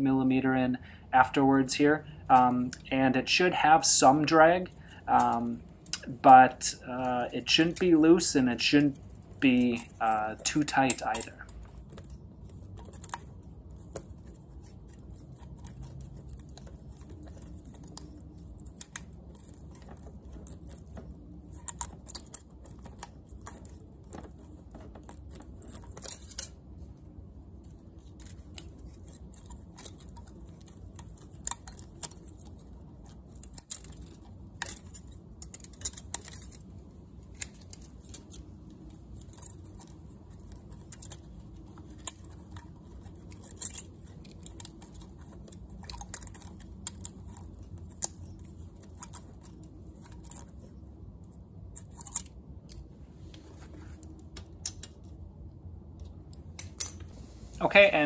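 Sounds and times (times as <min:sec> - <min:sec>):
small metallic clicks and scrapes: 0:01.2 - 0:57.6.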